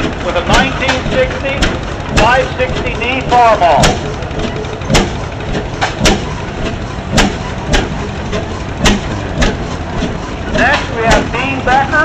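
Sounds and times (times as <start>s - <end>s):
engine exhaust bangs: 0.0s - 12.0s
low engine rumble: 0.0s - 12.0s.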